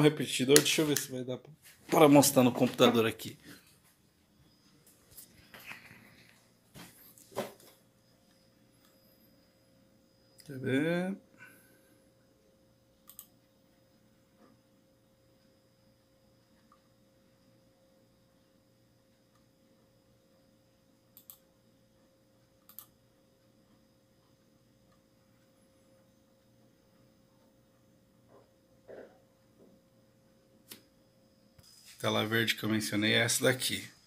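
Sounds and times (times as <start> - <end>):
faint electrical whine: 0.0 - 34.0.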